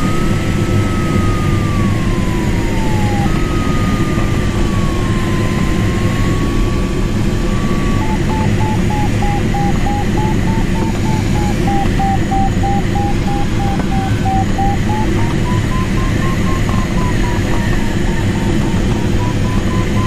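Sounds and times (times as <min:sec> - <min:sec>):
airplane engine drone: 0:00.0 - 0:20.0
variometer beeping: 0:00.0 - 0:20.0.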